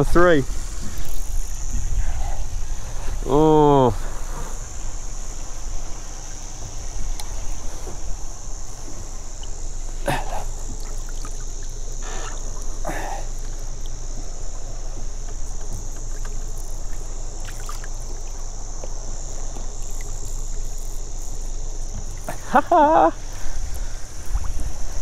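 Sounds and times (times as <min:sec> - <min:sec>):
high hiss: 0:00.0 - 0:25.0
water splashes: 0:00.0 - 0:25.0
wind rumble on microphone: 0:00.0 - 0:25.0.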